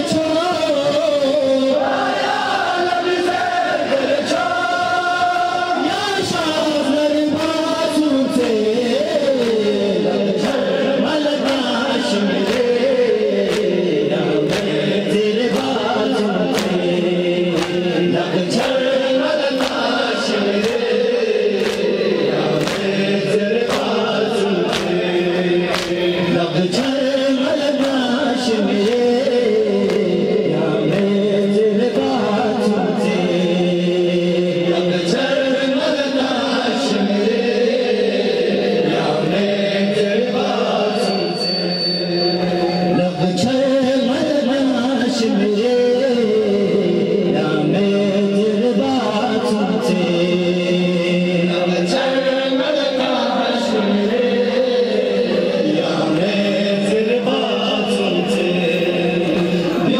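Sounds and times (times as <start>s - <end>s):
crowd of men chanting a lament: 0.0s - 59.9s.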